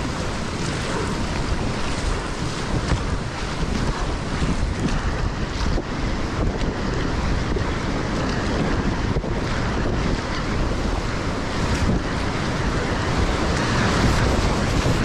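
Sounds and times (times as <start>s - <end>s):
paddle blades splashing: 0.0s - 15.0s
whitewater rushing: 0.0s - 15.0s.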